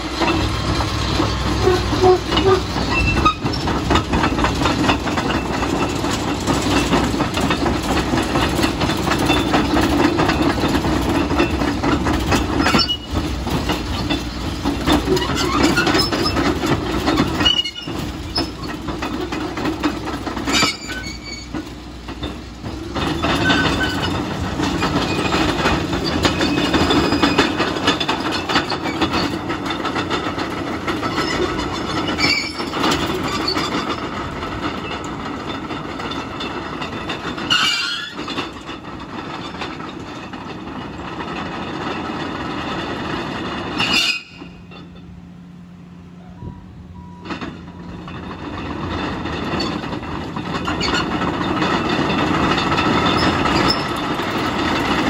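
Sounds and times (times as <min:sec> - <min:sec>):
diesel engine under load: 0:00.0 - 0:55.0
steel tracks clanking and squealing: 0:00.0 - 0:55.0.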